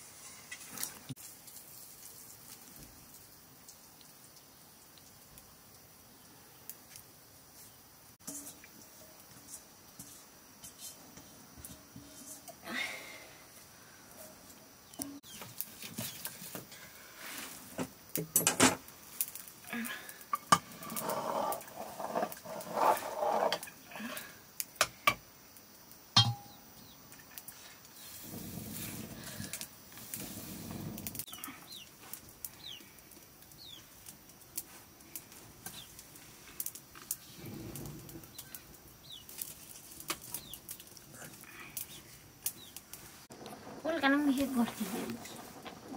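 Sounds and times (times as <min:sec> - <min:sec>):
wood fire burning: 0:00.0 - 0:45.9.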